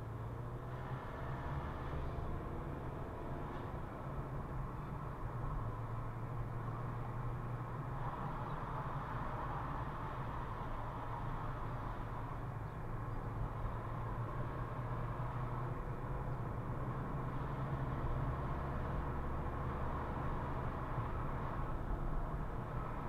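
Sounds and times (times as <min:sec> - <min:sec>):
car engine hum: 0:00.0 - 0:23.0.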